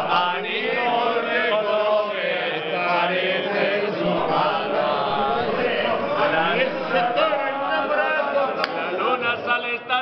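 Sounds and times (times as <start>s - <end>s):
men singing together: 0.0s - 10.0s.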